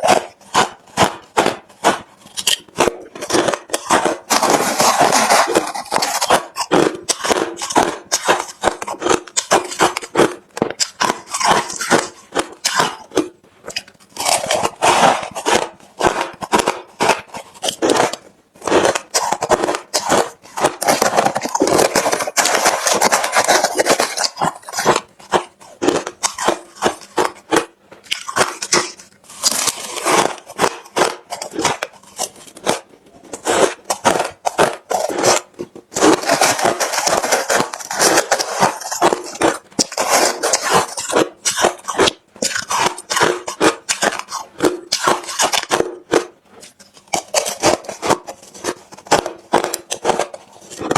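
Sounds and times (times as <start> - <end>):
ice being chewed: 0.0 - 50.9.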